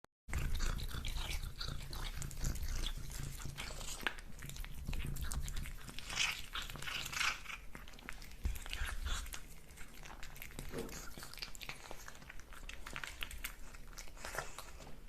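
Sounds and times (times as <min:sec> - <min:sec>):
cat chewing food: 0:00.3 - 0:15.0.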